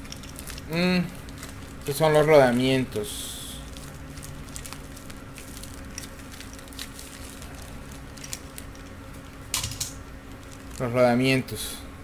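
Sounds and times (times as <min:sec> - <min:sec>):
plastic rustling: 0:00.0 - 0:03.0, 0:03.6 - 0:11.2
steady low hum: 0:00.0 - 0:12.0.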